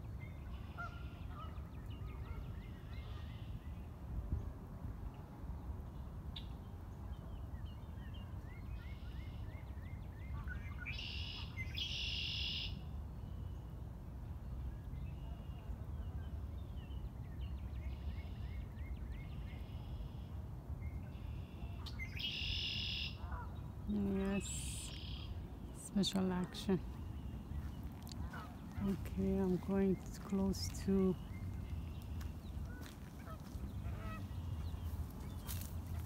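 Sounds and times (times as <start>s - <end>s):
low background noise: 0.0s - 36.0s
songbirds chirping: 5.5s - 36.0s.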